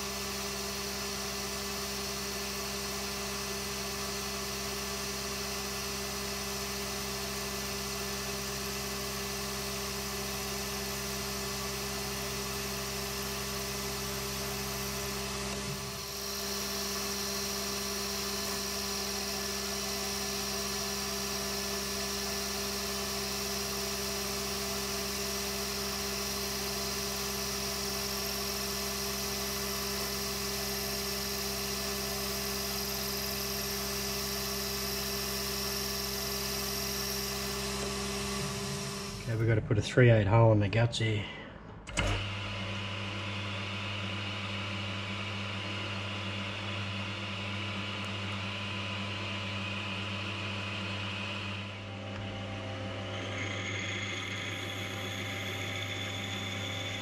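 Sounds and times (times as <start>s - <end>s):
metal lathe running: 0.0s - 39.5s, 41.9s - 57.0s.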